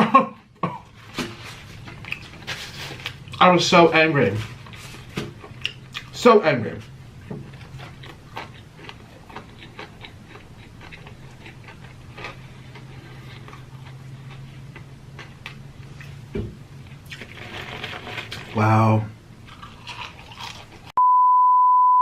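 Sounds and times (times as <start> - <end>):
person chewing food: 0.4 - 3.5, 4.3 - 6.2, 6.8 - 18.6, 19.4 - 21.0.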